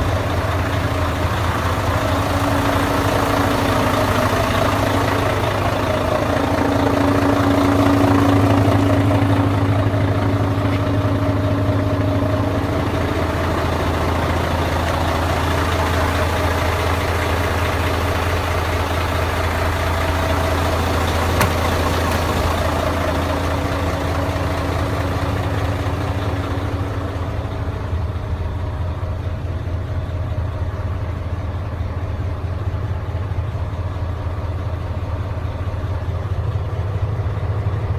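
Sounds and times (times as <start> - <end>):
truck diesel engine idling: 0.0 - 37.9.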